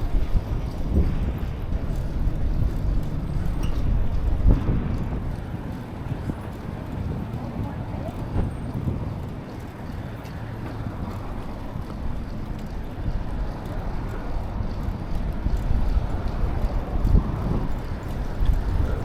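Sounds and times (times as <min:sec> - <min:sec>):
city traffic: 0:00.0 - 0:19.0
wind rushing over microphone: 0:00.0 - 0:19.0.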